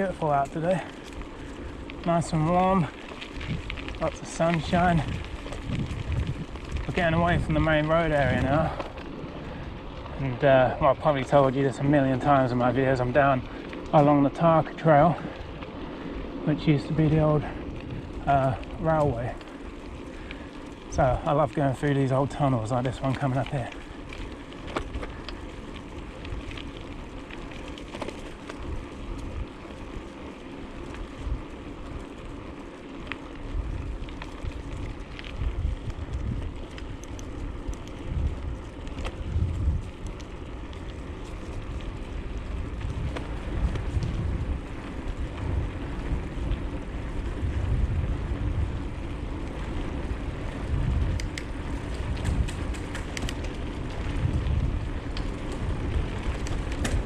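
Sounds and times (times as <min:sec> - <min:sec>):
bicycle drivetrain clicking: 0:00.0 - 0:57.0
bicycle tyres rolling: 0:00.0 - 0:57.0
wind buffeting microphone: 0:00.0 - 0:57.0.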